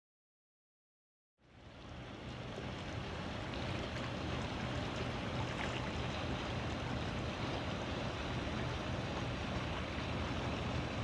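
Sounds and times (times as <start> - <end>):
water noise: 1.4 - 11.0
wind: 1.4 - 11.0.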